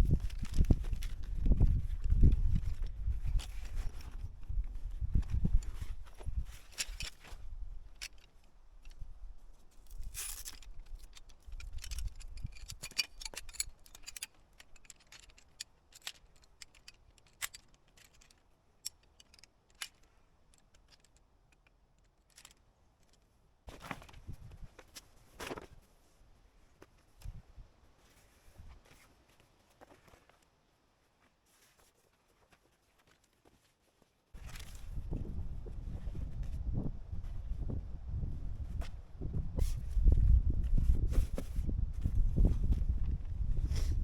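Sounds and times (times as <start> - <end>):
light clicks and rustles: 0.0 - 36.6.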